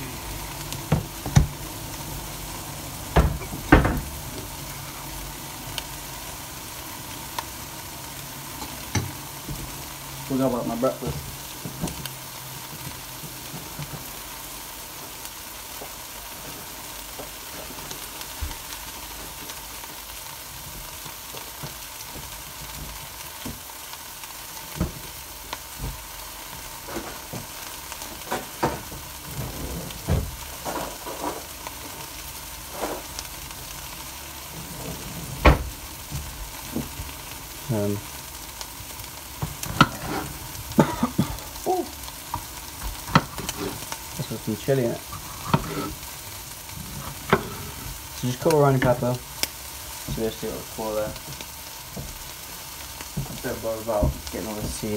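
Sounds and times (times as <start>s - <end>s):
chicken sizzling in a pan: 0.0s - 54.9s.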